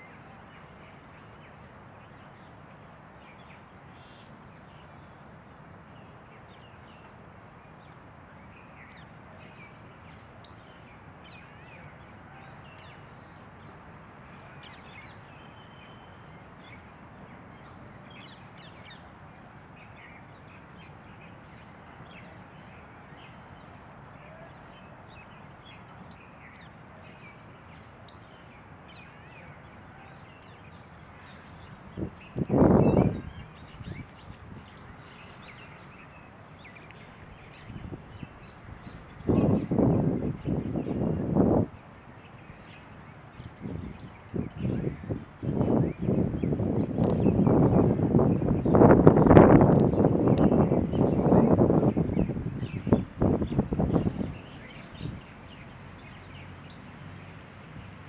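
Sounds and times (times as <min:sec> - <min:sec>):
steady background hiss: 0:00.0 - 0:58.0.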